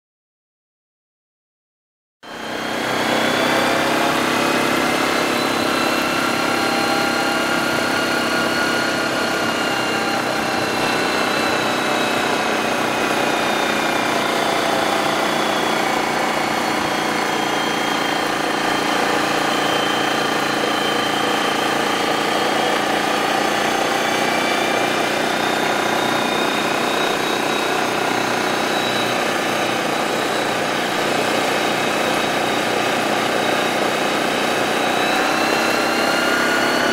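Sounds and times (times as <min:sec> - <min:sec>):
atv engine running: 0:02.3 - 0:36.9.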